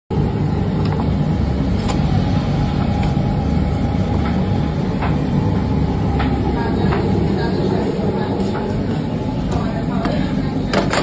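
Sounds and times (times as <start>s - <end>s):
low rumble: 0.1s - 10.6s.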